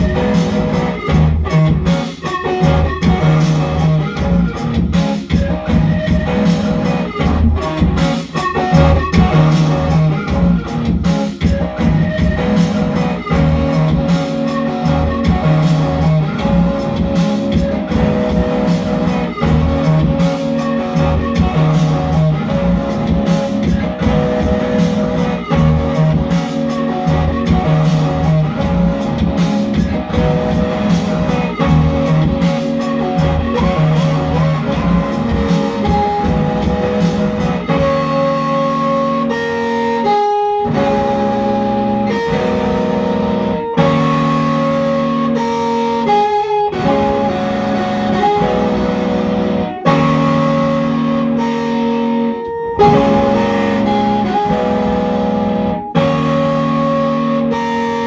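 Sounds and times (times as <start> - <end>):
electric guitar chords: 0.0 - 58.0.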